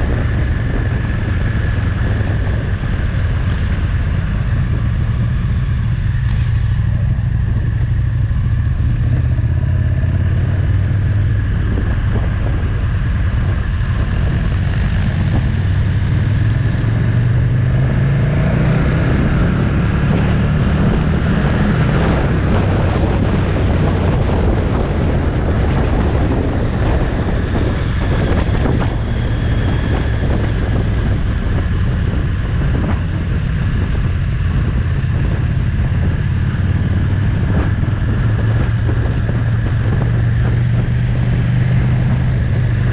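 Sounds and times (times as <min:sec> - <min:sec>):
motorcycle engine running: 0:00.0 - 0:42.9
wind and road noise: 0:00.0 - 0:42.9.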